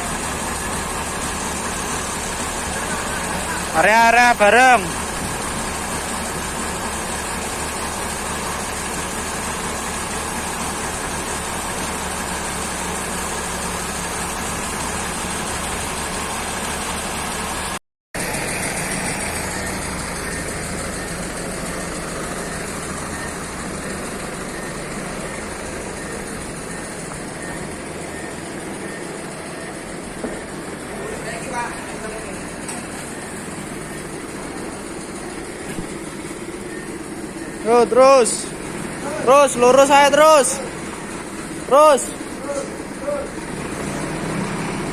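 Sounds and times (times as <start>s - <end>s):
forklift engine running: 0.0s - 44.9s.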